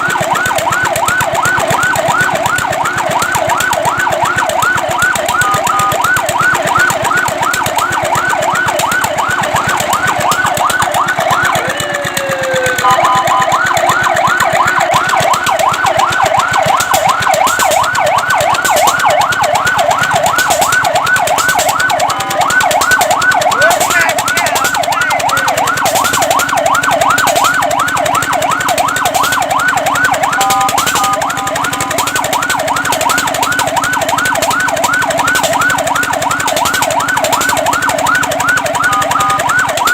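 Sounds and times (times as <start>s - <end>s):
fire truck siren yelping: 0.0s - 39.9s
short steady tones: 4.8s - 11.6s, 12.7s - 39.7s.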